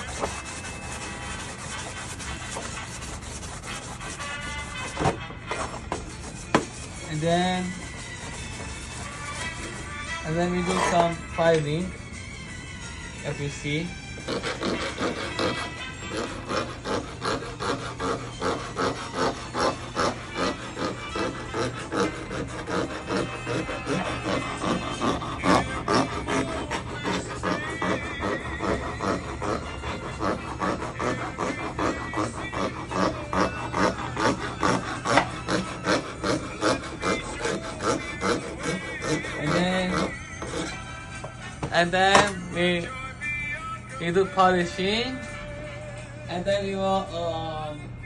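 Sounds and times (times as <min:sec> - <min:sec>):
hand file rasping on metal: 0:00.0 - 0:11.9, 0:13.2 - 0:42.8.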